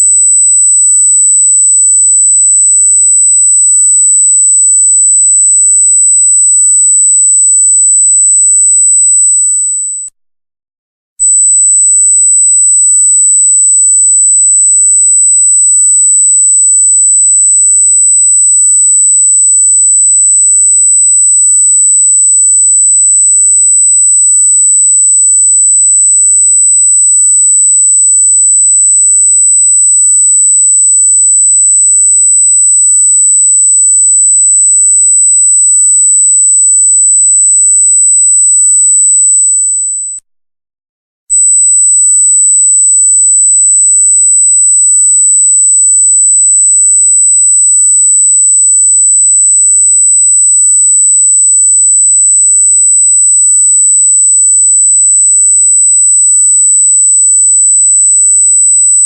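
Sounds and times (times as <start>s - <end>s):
high-pitched electronic sine tone: 0.0s - 10.1s, 11.2s - 40.3s, 41.3s - 59.0s.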